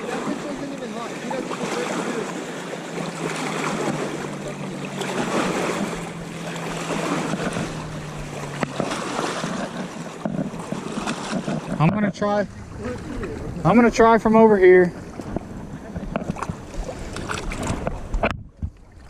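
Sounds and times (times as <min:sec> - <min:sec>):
rushing river water: 0:00.0 - 0:18.2
low hum: 0:02.4 - 0:19.0.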